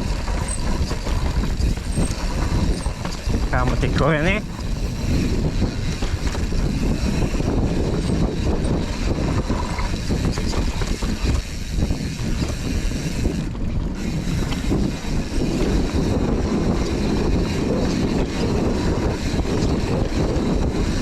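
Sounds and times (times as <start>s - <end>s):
bike knocks and rattles: 0.0s - 21.0s
tyres rumbling on dirt: 0.0s - 21.0s
wind buffeting microphone: 0.0s - 21.0s.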